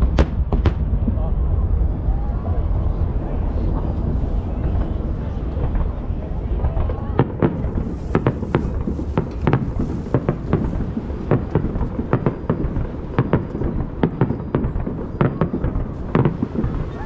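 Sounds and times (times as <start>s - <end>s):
fireworks bursting with bangs: 0.0s - 17.0s
low rumble of echoing booms: 0.0s - 17.0s.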